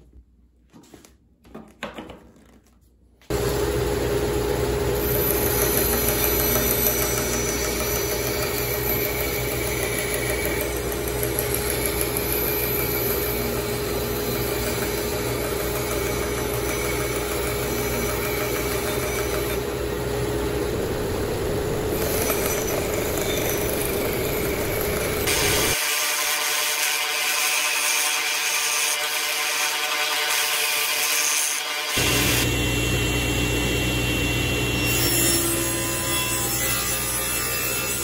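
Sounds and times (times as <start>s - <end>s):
bandsaw cutting wood: 4.9s - 38.0s.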